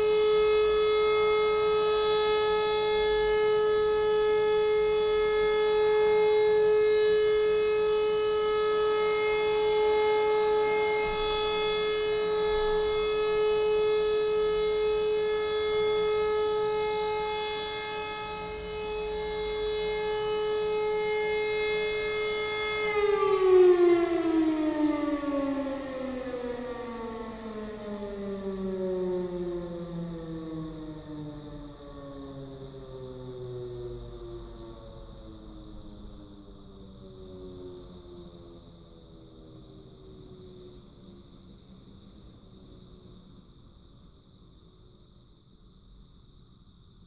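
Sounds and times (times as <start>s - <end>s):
siren steady tone winding down: 0.0s - 47.0s.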